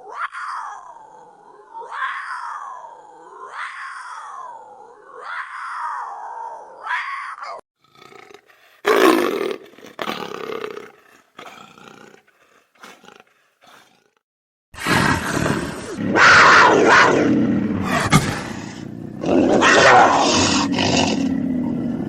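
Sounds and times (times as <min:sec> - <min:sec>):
big cat yowl: 0:00.0 - 0:14.1, 0:14.8 - 0:22.0
big cat roars and growls: 0:00.0 - 0:14.2, 0:14.8 - 0:22.0.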